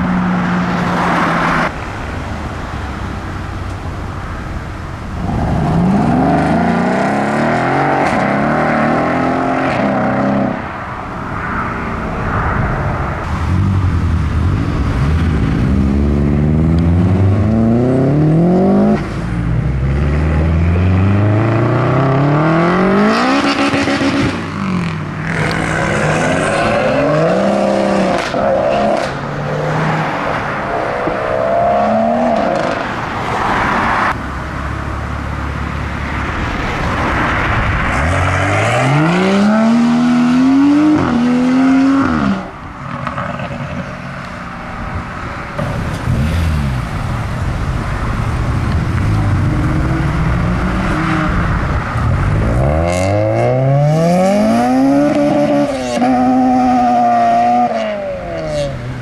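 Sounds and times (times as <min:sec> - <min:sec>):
cars accelerating hard: 0:05.1 - 0:59.0.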